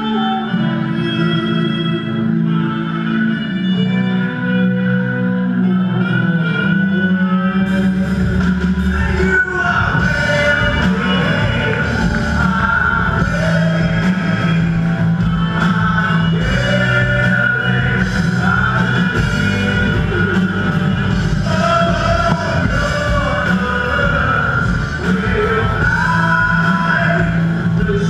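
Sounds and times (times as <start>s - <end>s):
live rock band playing: 0.0s - 28.0s
person singing: 0.0s - 28.0s.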